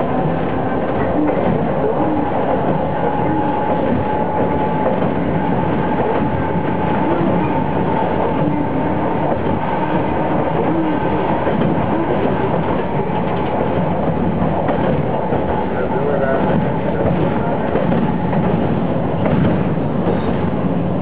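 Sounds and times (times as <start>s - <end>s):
streetcar motor drone: 0.0s - 21.0s.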